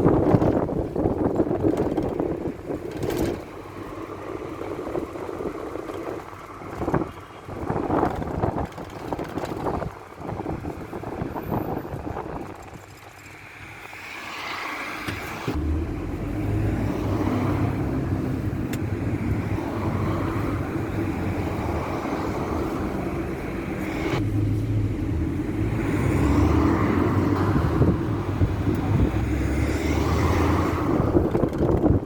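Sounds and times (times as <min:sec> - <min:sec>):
minibus engine: 0:00.0 - 0:32.0
road noise inside vehicle: 0:00.0 - 0:32.0.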